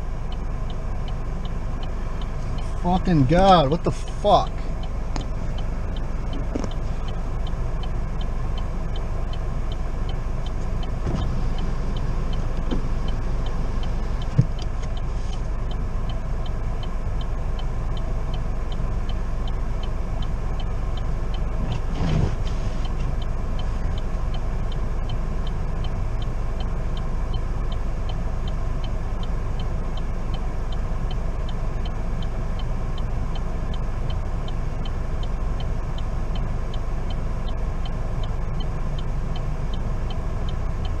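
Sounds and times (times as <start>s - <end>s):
car engine and road noise: 0.0s - 41.0s
faint regular ticking: 0.0s - 41.0s.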